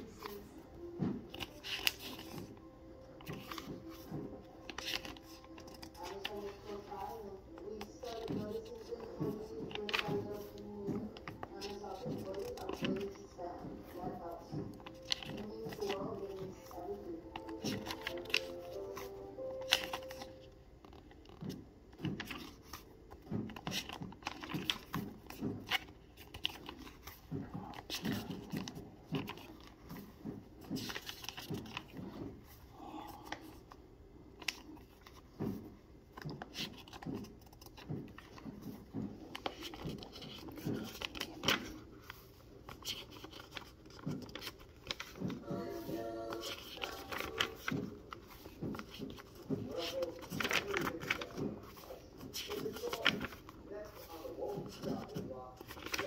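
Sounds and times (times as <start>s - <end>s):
notebook pages turning: 0.0s - 56.0s.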